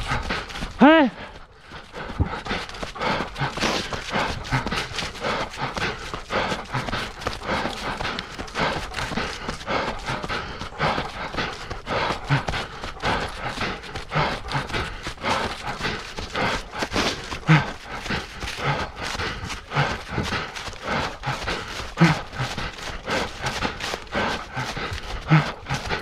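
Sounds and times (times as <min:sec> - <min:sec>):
runner's short voiced breaths: 0:00.0 - 0:26.0
running footsteps: 0:00.0 - 0:26.0.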